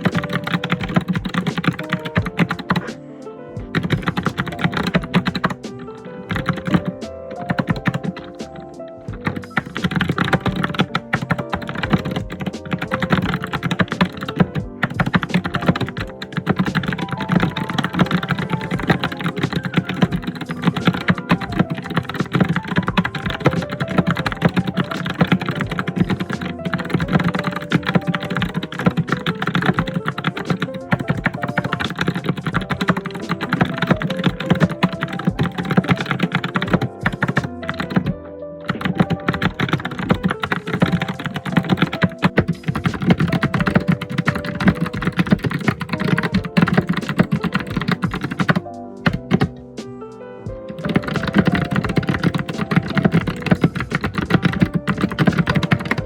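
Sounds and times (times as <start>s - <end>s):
fast typing on keyboard: 0.0s - 2.9s, 3.6s - 38.1s, 38.7s - 49.6s, 50.7s - 56.0s.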